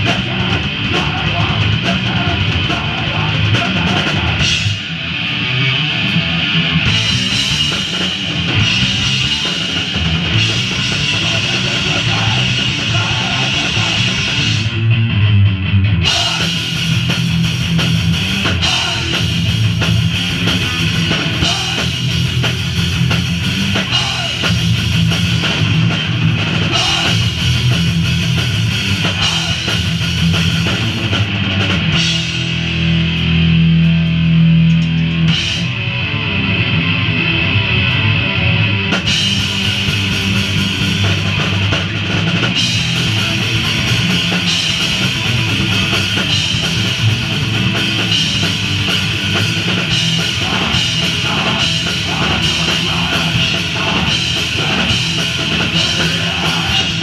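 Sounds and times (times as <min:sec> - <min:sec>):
pounding drum kit: 0:00.0 - 0:15.0, 0:15.8 - 0:36.1, 0:38.8 - 0:57.0
distorted guitar and bass riffing: 0:00.0 - 0:57.0
punk band playing loud: 0:00.0 - 0:57.0.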